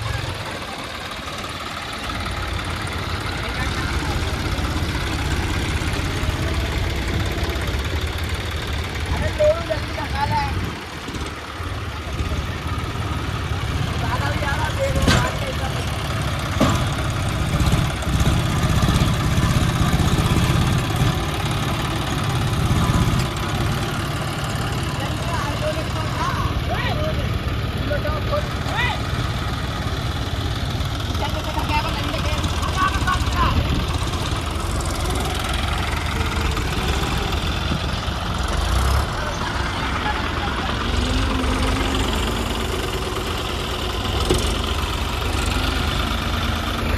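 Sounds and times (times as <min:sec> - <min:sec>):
tractor diesel engines throbbing: 0:00.0 - 0:46.9.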